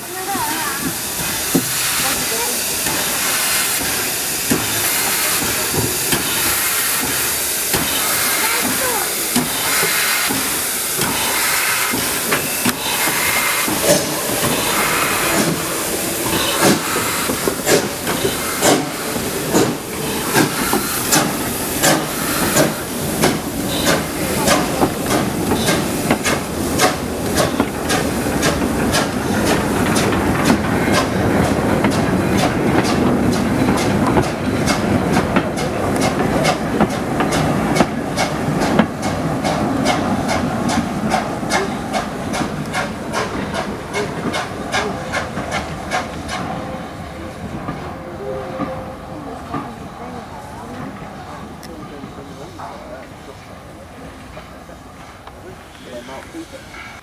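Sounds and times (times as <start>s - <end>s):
steam hissing: 0.0s - 57.0s.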